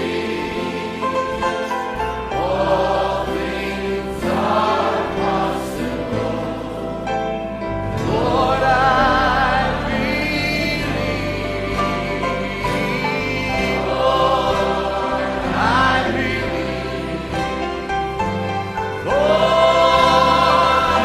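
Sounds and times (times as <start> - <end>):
choir singing a slow hymn: 0.0 - 21.0.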